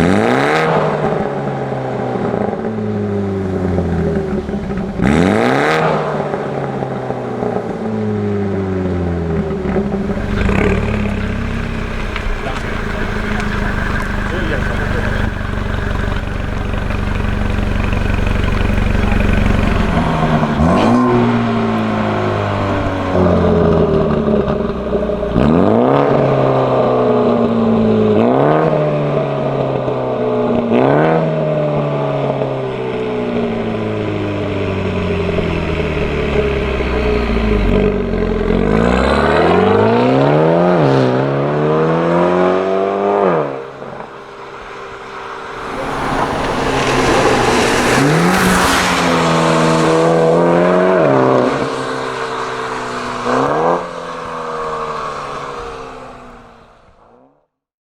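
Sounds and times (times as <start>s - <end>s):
car engine revving: 0.0s - 57.3s.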